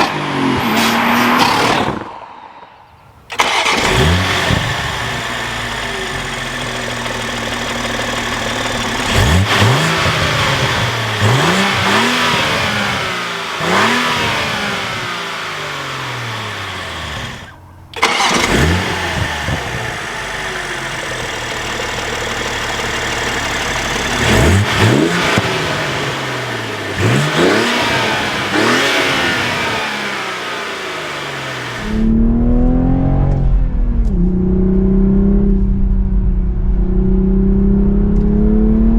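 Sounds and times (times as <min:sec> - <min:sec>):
car engine accelerating hard: 0:03.4 - 0:38.9.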